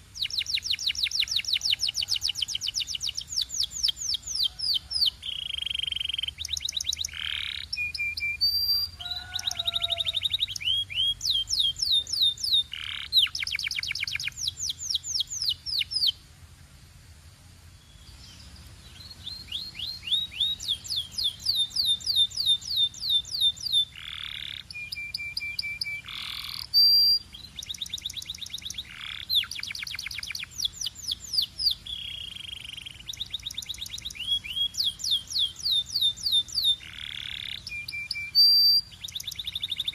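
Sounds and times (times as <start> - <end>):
canary singing: 0.0 - 16.2, 17.8 - 39.9.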